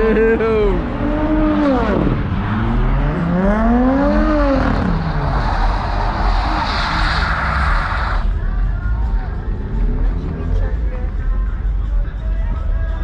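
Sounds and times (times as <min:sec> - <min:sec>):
car engine revving: 0:00.0 - 0:11.6
rushing noise of cars: 0:00.0 - 0:13.0.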